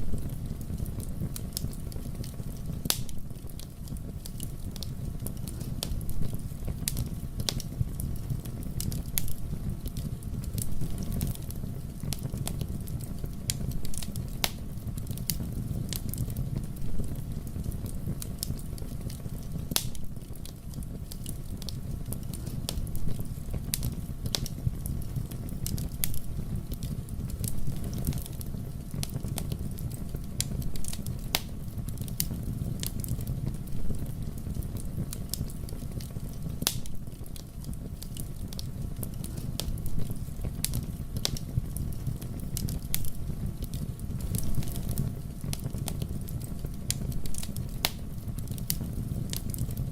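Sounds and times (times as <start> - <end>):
fire crackling and popping: 0.0 - 49.9
fire rumbling in fireplace: 0.0 - 49.9.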